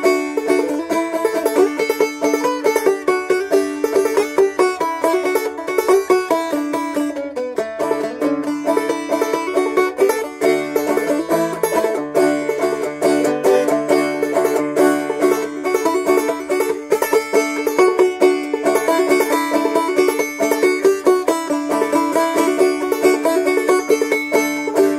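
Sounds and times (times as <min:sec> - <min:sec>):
banjo playing carol melody: 0:00.0 - 0:24.9.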